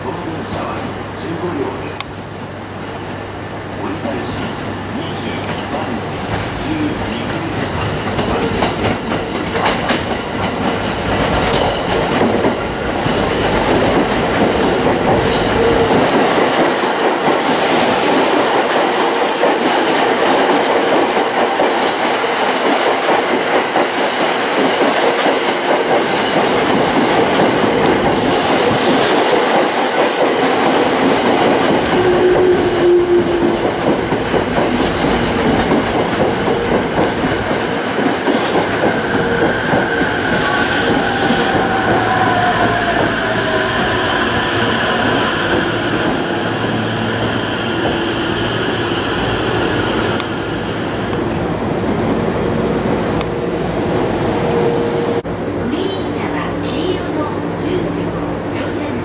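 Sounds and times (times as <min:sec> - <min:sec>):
train wheels on rails: 0:04.0 - 0:59.0.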